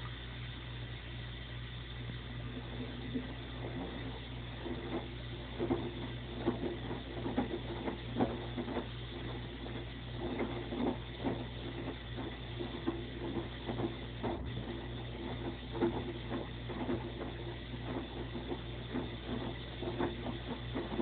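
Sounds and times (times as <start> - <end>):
washing machine pump hum: 0.0 - 21.0
water gurgling and splashing: 1.6 - 21.0.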